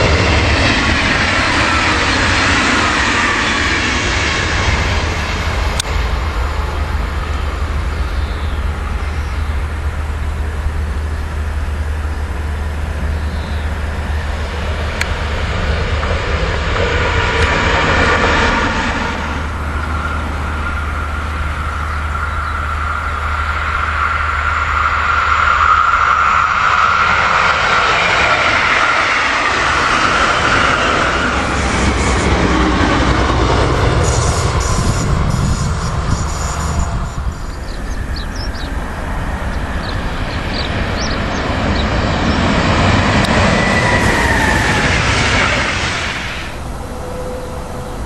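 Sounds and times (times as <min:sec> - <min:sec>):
electric train whine: 0:00.0 - 0:48.0
train rumble: 0:00.0 - 0:48.0.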